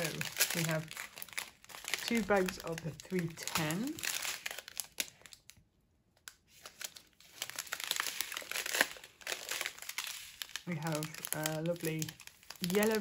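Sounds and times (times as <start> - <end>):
plastic packets crinkling: 0.0 - 5.7, 6.3 - 13.0.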